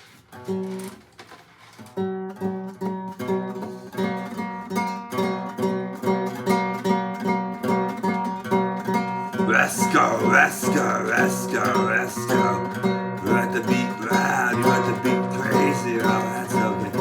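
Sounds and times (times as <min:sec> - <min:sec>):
acoustic guitar strumming: 0:00.1 - 0:01.0, 0:01.7 - 0:17.0.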